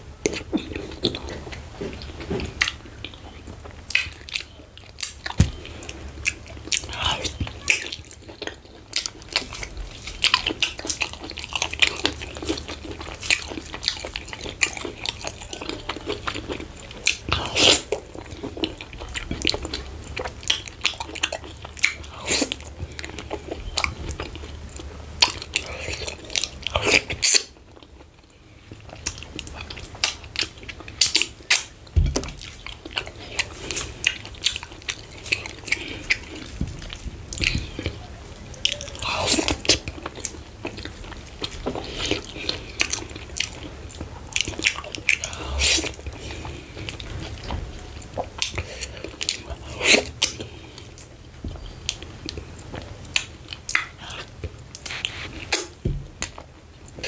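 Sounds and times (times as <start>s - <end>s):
chewing and wet mouth smacking: 0.2s - 57.0s.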